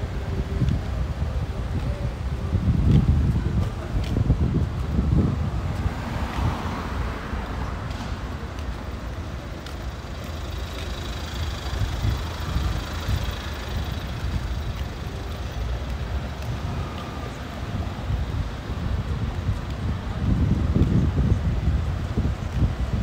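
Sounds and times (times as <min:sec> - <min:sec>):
car engines and road noise: 0:00.0 - 0:23.0
low traffic rumble: 0:00.0 - 0:23.0.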